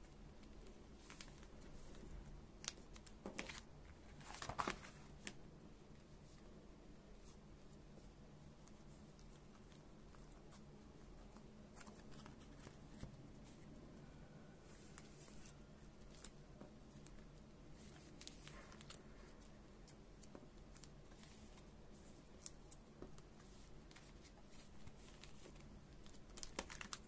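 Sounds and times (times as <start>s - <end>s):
plastic sleeves rustling and crinkling: 0.0s - 6.5s, 7.2s - 27.0s.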